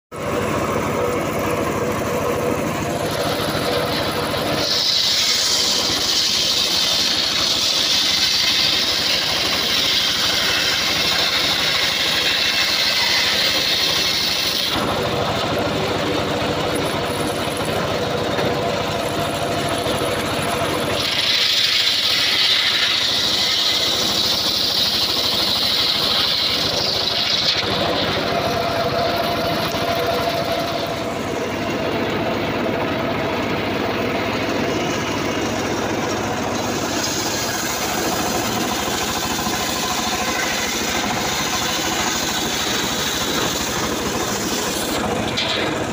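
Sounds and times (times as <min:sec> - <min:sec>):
sawmill machine running: 0:00.1 - 0:45.9
circular saw blade ripping log: 0:02.8 - 0:18.5, 0:19.2 - 0:31.9, 0:35.8 - 0:45.9.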